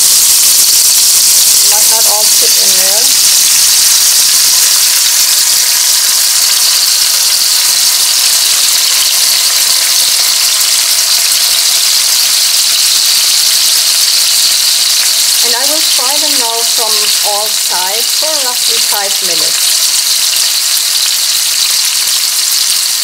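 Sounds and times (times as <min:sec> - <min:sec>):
cabbage rolls sizzling in hot oil: 0:00.0 - 0:23.0.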